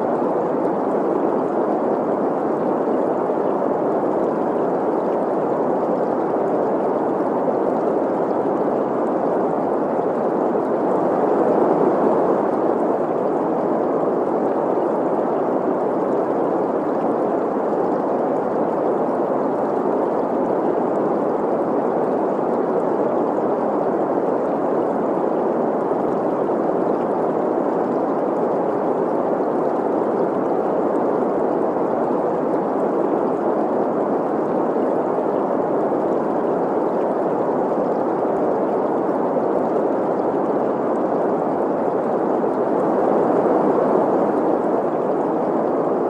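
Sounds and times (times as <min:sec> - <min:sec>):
flowing stream: 0:00.0 - 0:46.0.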